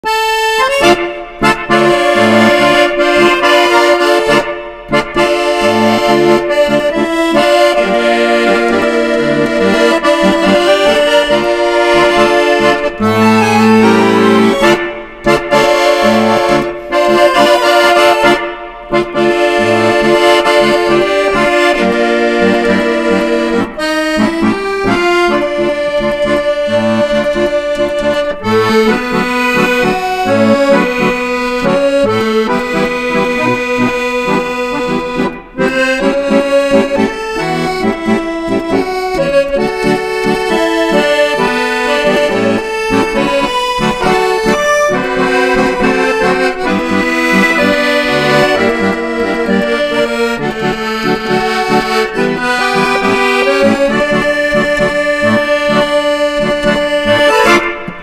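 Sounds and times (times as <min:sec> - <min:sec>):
tango music with accordion: 0:00.0 - 0:58.0.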